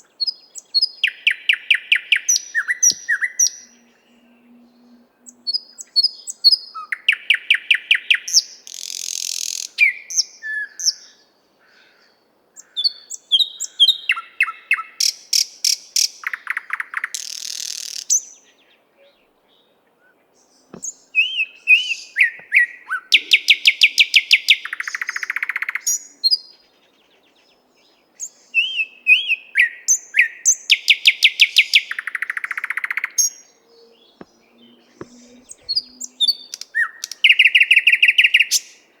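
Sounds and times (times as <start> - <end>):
nightingale singing: 0.0 - 11.3, 12.6 - 19.3, 20.0 - 39.0.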